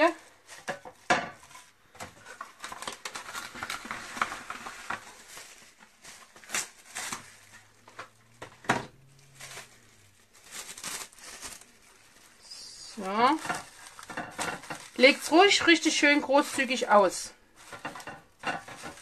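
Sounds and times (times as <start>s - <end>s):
cling film crinkling: 0.0s - 19.0s.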